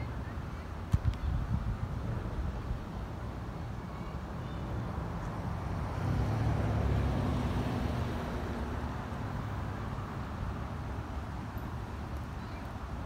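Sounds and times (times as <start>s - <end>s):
road traffic rumbling: 0.0s - 13.0s
vehicle engine hum: 0.0s - 13.0s.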